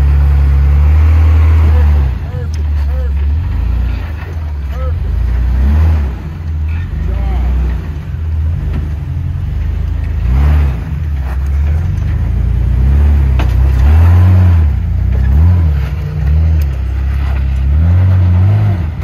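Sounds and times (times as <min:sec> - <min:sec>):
engine revving under load: 0:00.0 - 0:19.0.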